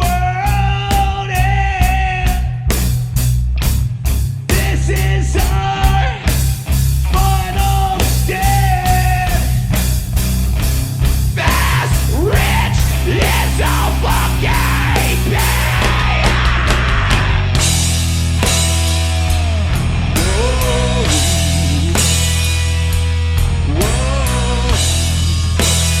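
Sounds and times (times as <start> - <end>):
metal band playing live: 0.0 - 26.0
steady drumbeat: 0.0 - 26.0.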